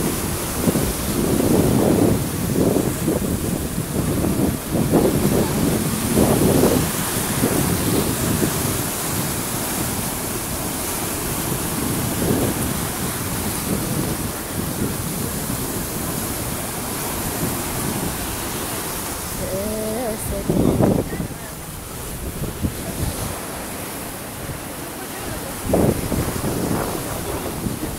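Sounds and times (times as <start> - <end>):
surf breaking against seawall: 0.0 - 27.9
wind gusting on microphone: 0.0 - 27.9.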